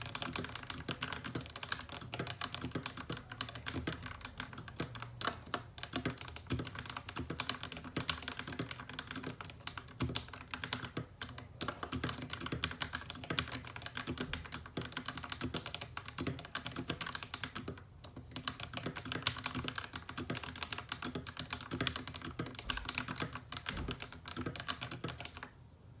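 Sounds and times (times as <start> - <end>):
fast typing on mechanical keyboard: 0.0 - 25.6.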